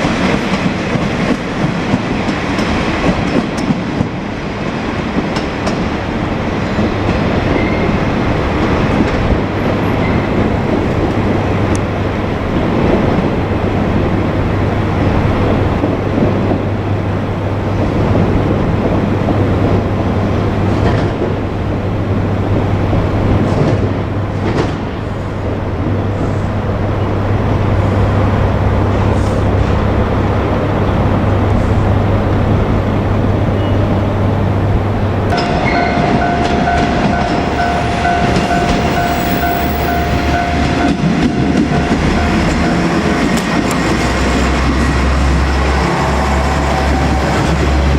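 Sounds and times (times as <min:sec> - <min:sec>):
diesel railcar engine drone: 0:00.0 - 0:47.9
wheels rumbling on rail: 0:00.0 - 0:47.9.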